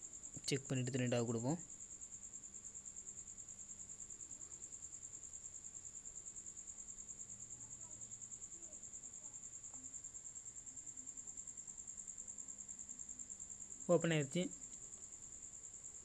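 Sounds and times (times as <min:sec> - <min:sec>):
cricket trilling: 0:00.0 - 0:16.0.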